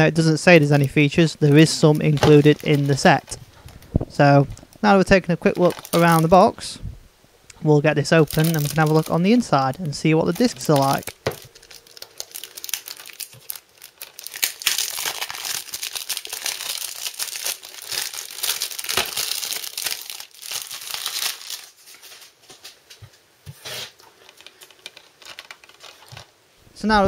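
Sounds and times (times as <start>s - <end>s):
cellophane wrap crinkling: 0.7s - 6.5s, 8.0s - 22.7s, 23.7s - 26.4s.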